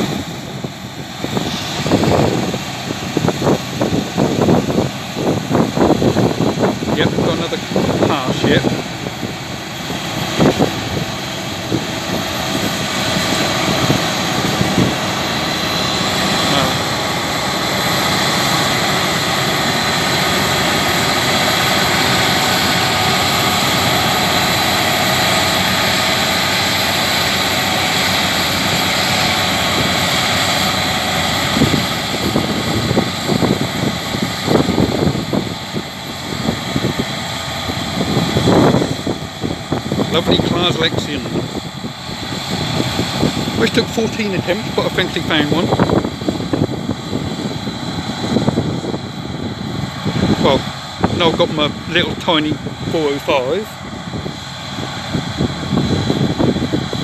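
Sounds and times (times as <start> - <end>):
combine harvester engine drone: 0.0 - 57.0
wind bumps on microphone: 0.0 - 57.0.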